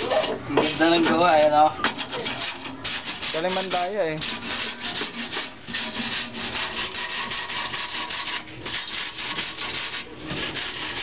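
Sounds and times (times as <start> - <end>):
hand tool scraping rust off steel: 0.0 - 11.0.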